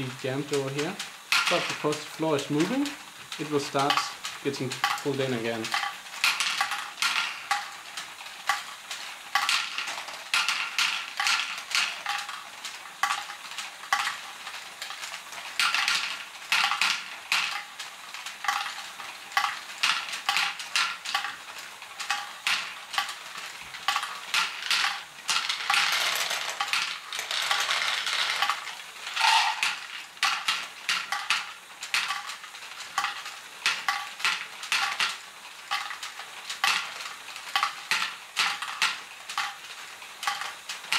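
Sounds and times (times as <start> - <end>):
plastic balls clattering through pump: 0.0 - 40.9.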